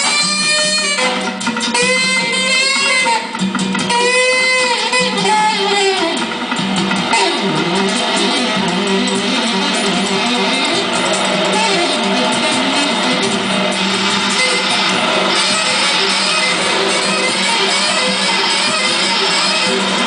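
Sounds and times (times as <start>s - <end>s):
guitar strumming: 0.0s - 20.0s.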